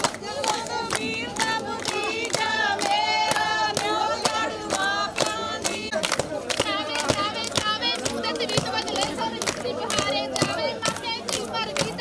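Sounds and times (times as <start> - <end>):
hand-clapping in time: 0.0 - 12.0
women singing in chorus: 0.0 - 12.0.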